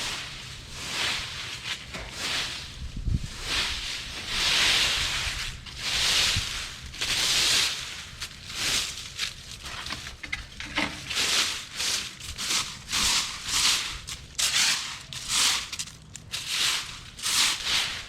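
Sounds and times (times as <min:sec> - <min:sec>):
dry leaves rustling and crunching: 0:00.0 - 0:18.0.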